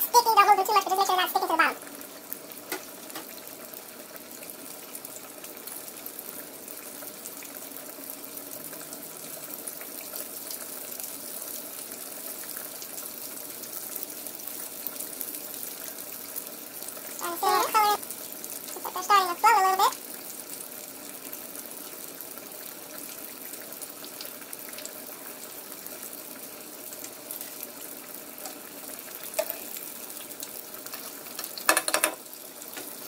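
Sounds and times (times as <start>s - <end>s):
hot oil sizzling and bubbling: 0.0s - 33.0s.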